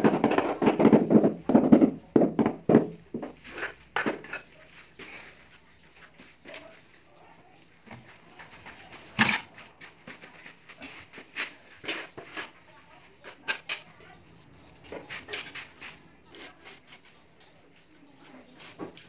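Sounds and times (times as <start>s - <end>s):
scraping on tiles and mortar: 0.0s - 7.0s, 7.8s - 19.0s.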